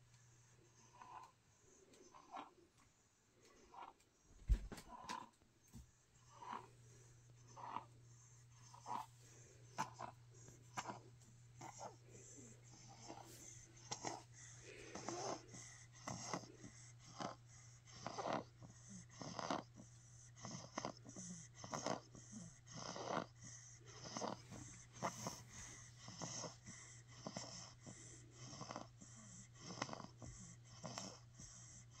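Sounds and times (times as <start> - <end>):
wheezy snoring: 0.6 - 2.6, 4.8 - 5.3, 6.2 - 32.0.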